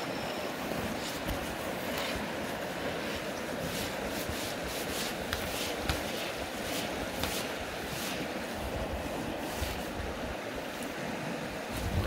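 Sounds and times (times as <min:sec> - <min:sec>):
shallow river flowing: 0:00.0 - 0:12.0.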